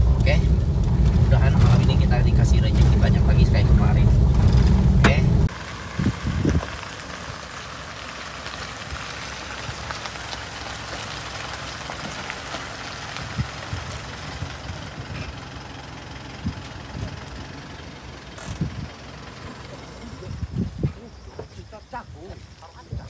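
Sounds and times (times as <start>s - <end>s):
truck engine running low: 0.0s - 21.2s
light rain on gravel road: 0.0s - 23.0s.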